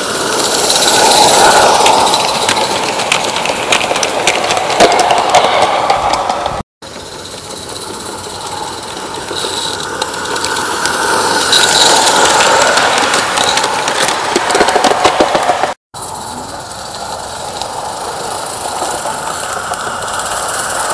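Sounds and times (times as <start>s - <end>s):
rapid clicking of train: 0.0s - 20.9s
steam hiss: 0.0s - 20.9s.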